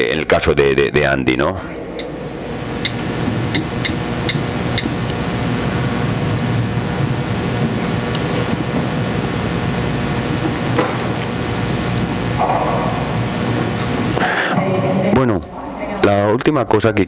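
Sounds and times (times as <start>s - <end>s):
large hall room noise: 0.0s - 17.0s
low hum: 1.3s - 16.3s.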